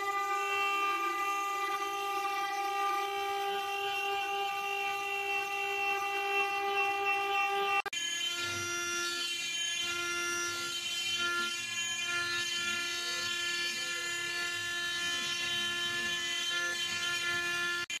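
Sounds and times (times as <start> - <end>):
stone carving machine whine: 0.0 - 18.0.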